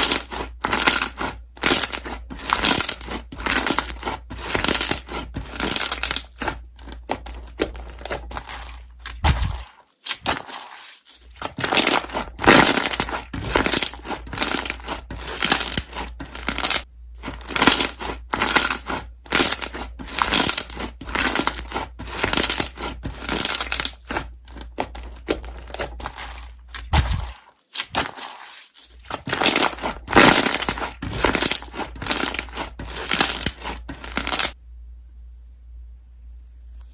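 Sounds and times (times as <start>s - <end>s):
low steady hum: 0.0s - 28.1s, 28.8s - 36.9s
slime squished by hand: 0.0s - 34.6s.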